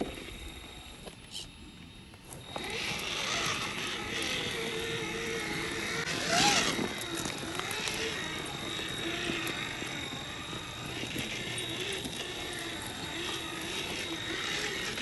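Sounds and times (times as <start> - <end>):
toy truck motor whining: 0.0 - 15.0
wheels rolling and crunching: 0.0 - 15.0.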